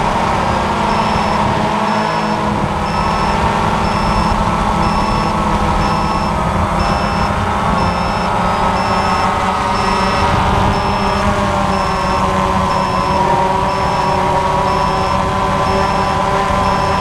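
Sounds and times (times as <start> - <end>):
drone propellers whirring: 0.0 - 17.0
high-pitched electronic beep: 0.0 - 17.0.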